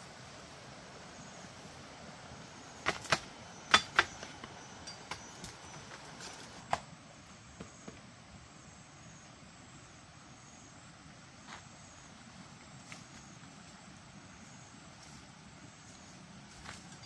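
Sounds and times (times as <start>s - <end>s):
faint high insect buzz: 0.0s - 17.0s
low hiss: 0.0s - 17.0s.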